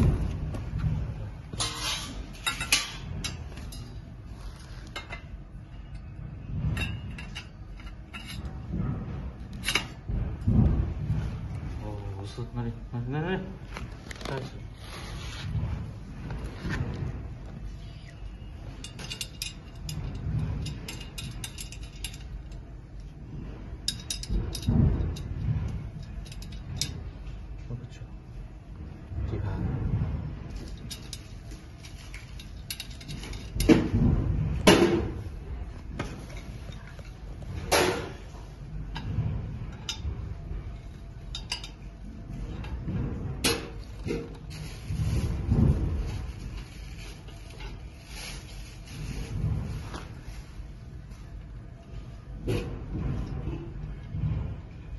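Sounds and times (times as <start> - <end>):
steady low rumble: 0.0 - 54.9.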